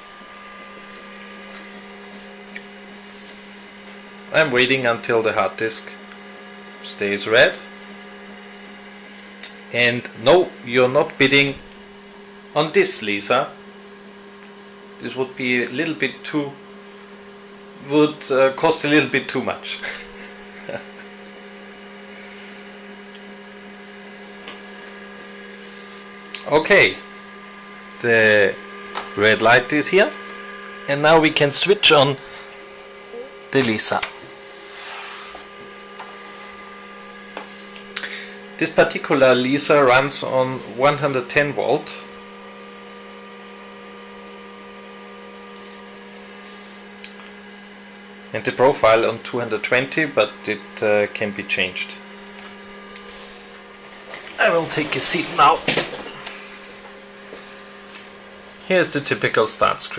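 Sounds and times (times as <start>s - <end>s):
hard disk hum and whir: 0.0s - 59.9s.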